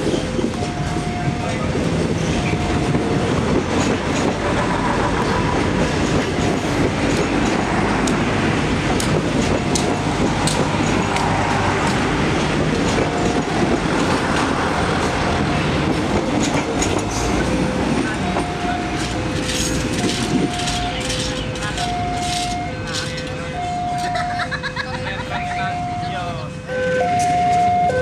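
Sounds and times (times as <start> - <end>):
train wheels clacking over rail joints: 0.0 - 24.4.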